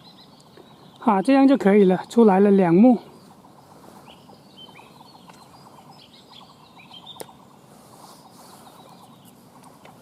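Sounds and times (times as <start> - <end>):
small birds chirping faintly: 0.0 - 10.0.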